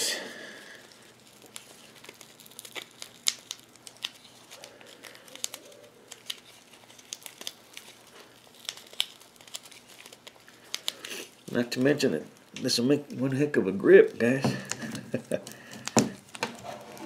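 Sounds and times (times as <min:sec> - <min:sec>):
repair wrap crinkling: 0:00.0 - 0:17.0.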